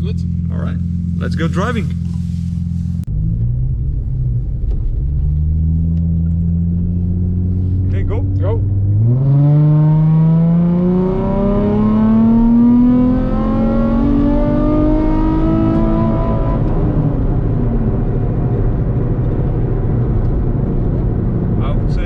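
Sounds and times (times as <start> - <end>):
car engine at full throttle: 0.0 - 22.0
road noise: 0.0 - 22.0.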